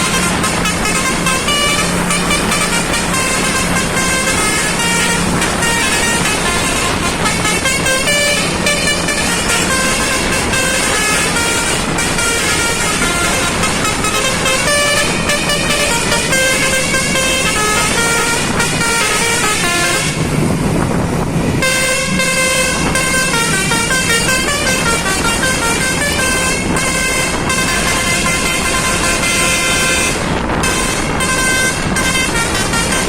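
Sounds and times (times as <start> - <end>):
engine and road noise: 0.0 - 33.0
melodic multi-tone bus horn: 0.0 - 33.0.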